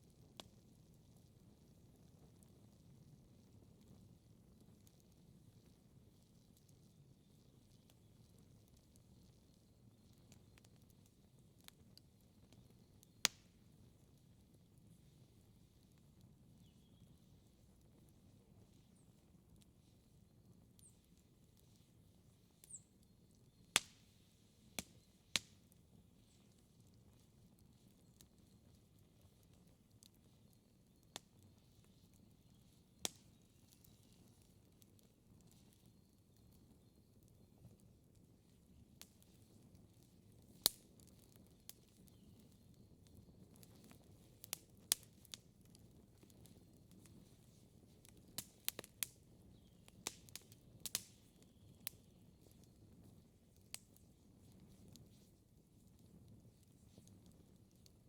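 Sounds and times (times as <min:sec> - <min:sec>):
wood fire rumbling and crackling: 0:00.0 - 0:58.0
sharp pops from burning logs: 0:06.5 - 0:14.0, 0:15.8 - 0:58.0.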